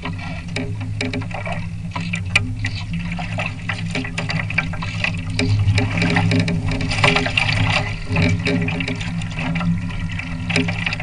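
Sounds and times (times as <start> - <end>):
steady low hum: 0.0 - 11.0
water splashing against hull: 0.0 - 11.0.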